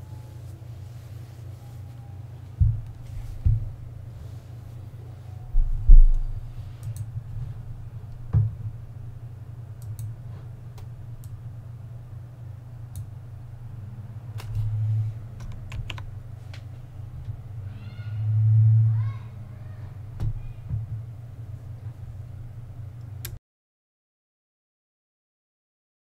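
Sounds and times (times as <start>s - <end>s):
steady low hum: 0.0s - 23.4s.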